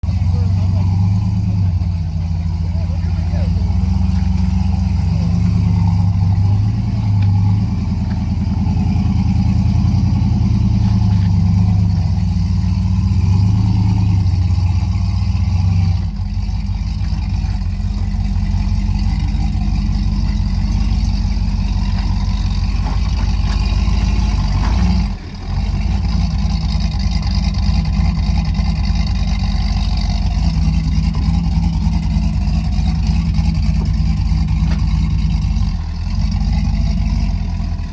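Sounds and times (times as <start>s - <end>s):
car engine running: 0.0s - 37.9s.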